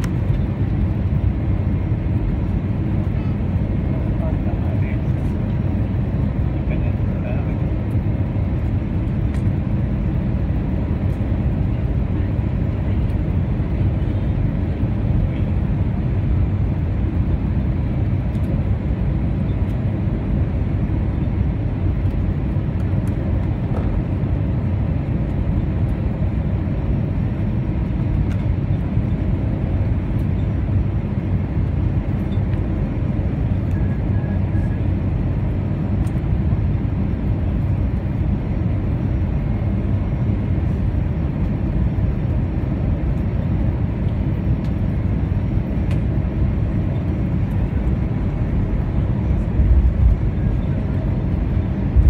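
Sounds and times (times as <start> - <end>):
airplane cabin noise: 0.0 - 52.0.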